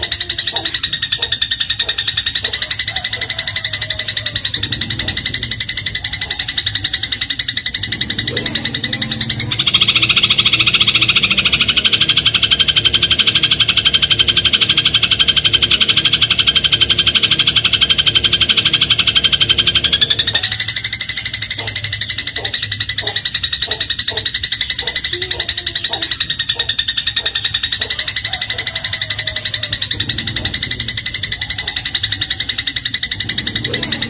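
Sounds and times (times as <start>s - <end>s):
sparrow buzzing trill song: 0.0s - 34.0s.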